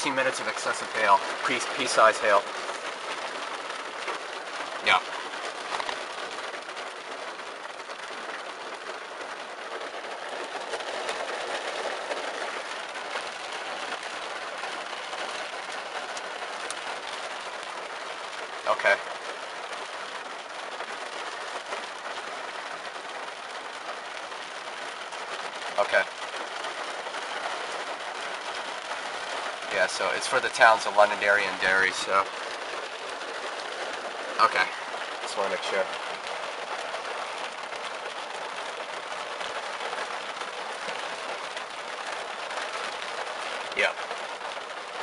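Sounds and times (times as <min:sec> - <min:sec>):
hail falling: 0:00.0 - 0:45.0
rain falling: 0:00.0 - 0:45.0.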